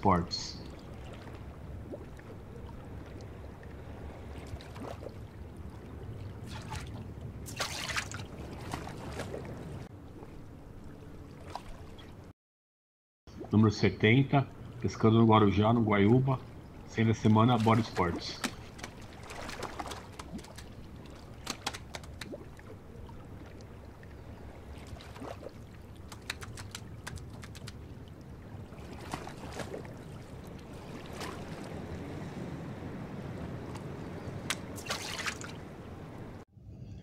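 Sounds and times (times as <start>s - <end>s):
water splashes: 0.0s - 12.3s, 13.3s - 36.4s
wind and water rushing: 0.0s - 12.3s, 13.3s - 36.4s.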